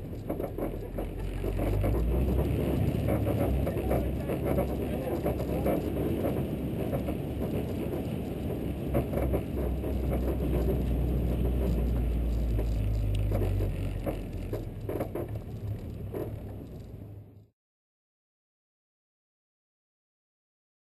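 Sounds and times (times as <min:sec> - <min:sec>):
car engine droning: 0:00.0 - 0:17.5
road noise: 0:00.0 - 0:17.5.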